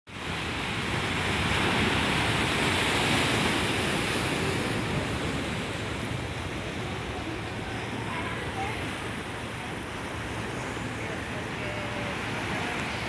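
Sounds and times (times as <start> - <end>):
sea: 0.1 - 13.0
wind: 0.1 - 13.0.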